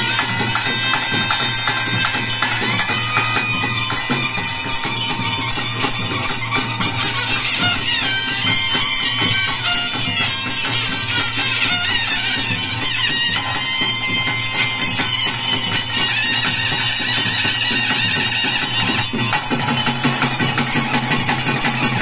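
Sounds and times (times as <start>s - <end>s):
fast drumming: 0.0s - 22.0s
jingling percussion: 0.0s - 22.0s.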